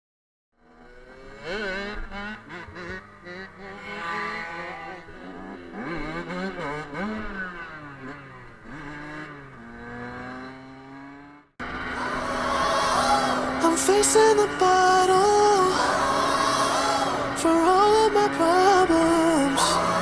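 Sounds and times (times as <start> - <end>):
small motorbike engines revving: 0.6 - 20.0.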